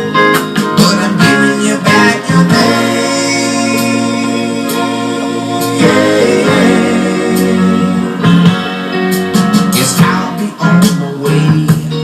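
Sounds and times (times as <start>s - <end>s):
soft-rock song with acoustic guitar: 0.0s - 12.0s.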